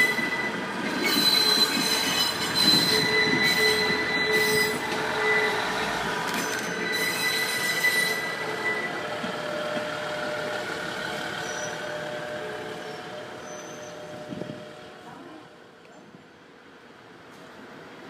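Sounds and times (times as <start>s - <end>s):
train wheels squealing: 0.0s - 14.7s
train running noise: 0.0s - 18.0s.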